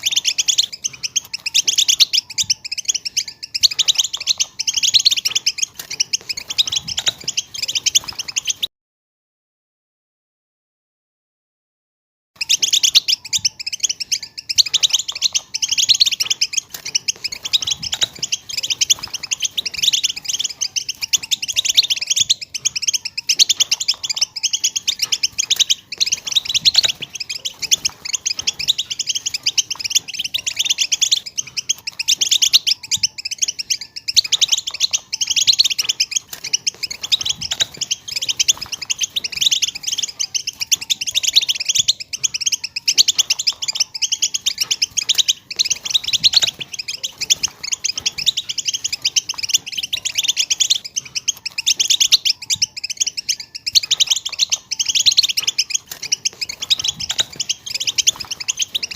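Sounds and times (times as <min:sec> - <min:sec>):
flock of goldfinches twittering: 0:00.0 - 0:08.7, 0:12.4 - 0:58.9.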